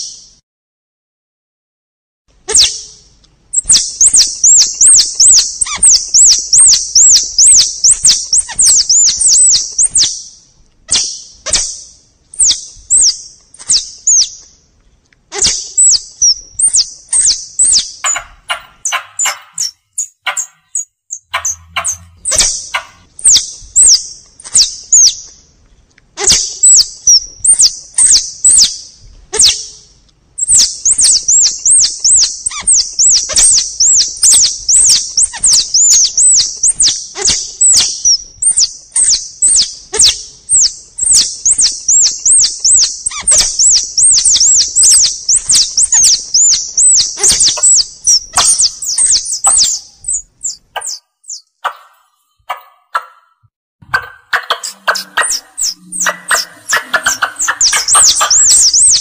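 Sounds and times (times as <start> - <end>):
squirrel chirping calls: 2.5 - 14.4, 15.3 - 25.4, 26.2 - 29.8, 30.4 - 59.0.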